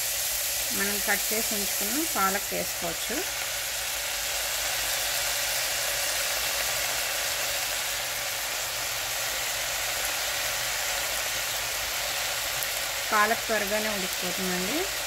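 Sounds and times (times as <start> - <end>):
spinach sizzling in hot oil: 0.0 - 15.0.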